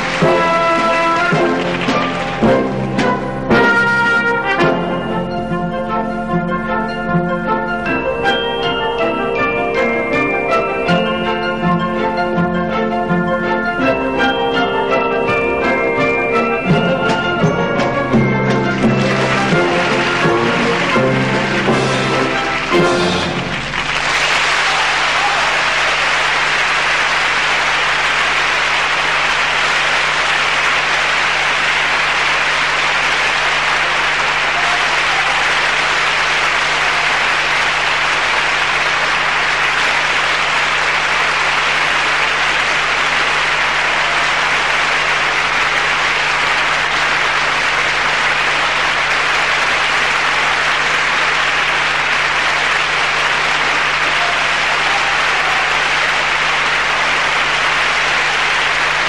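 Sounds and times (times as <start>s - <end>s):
audience applauding: 0.0s - 5.1s, 13.8s - 59.0s.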